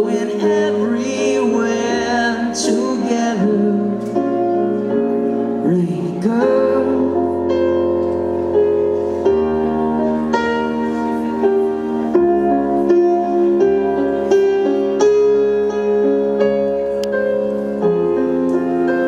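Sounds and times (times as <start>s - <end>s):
live band music: 0.0s - 19.0s
piano chords ringing: 0.0s - 19.0s.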